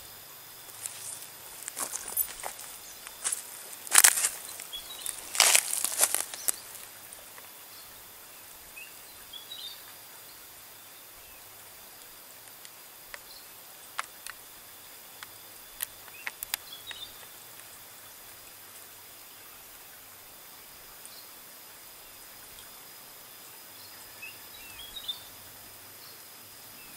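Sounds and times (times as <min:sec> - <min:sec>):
faint hiss: 0:00.0 - 0:26.9
high insect tones: 0:00.0 - 0:26.9.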